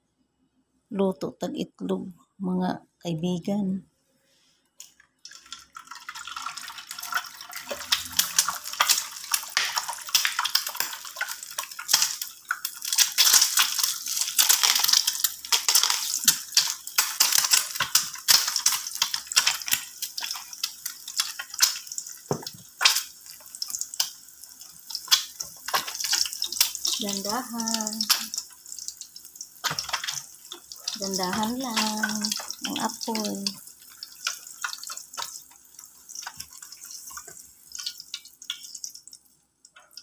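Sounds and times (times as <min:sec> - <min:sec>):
egg sizzling in hot oil: 0:04.8 - 0:40.0.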